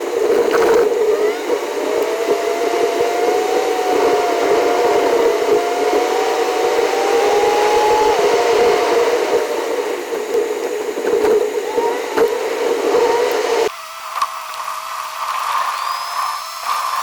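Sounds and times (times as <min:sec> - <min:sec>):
car engine and road noise: 0:00.0 - 0:13.7
whine rising in pitch: 0:00.0 - 0:14.0, 0:15.2 - 0:17.0.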